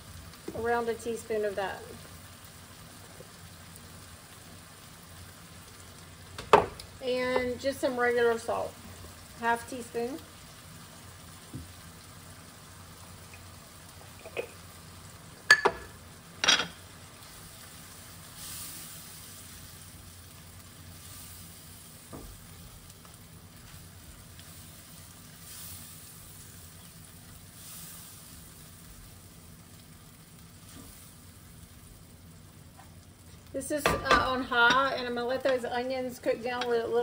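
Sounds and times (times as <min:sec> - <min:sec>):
vegetables sizzling in pan: 0:00.0 - 0:37.0.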